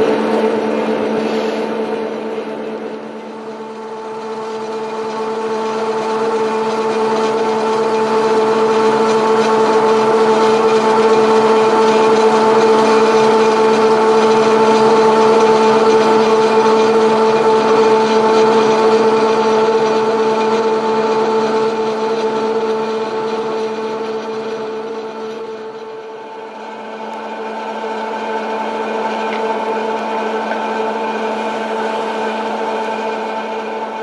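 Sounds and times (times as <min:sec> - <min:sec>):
machinery humming: 0:00.0 - 0:34.0.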